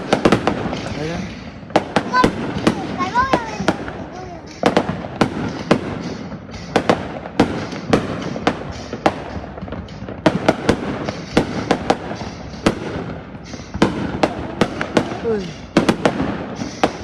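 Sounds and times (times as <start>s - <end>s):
fireworks bangs: 0.0s - 17.0s
fireworks rumble and crackle: 0.0s - 17.0s.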